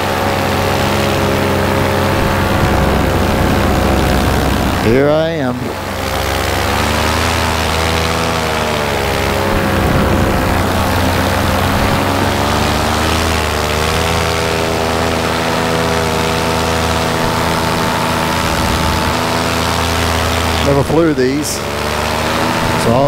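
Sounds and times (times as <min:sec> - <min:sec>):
paramotor engine running: 0:00.0 - 0:23.0.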